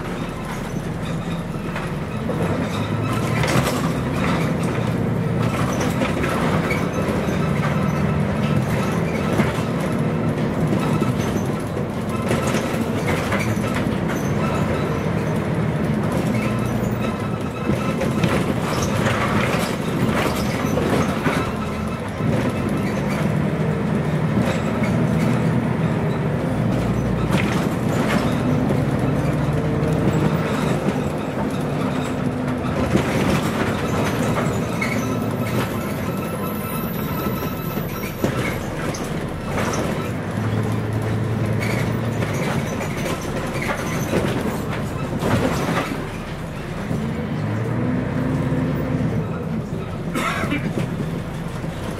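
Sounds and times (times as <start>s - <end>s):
bus body rattling: 0.0s - 51.9s
bus diesel engine: 0.0s - 51.9s.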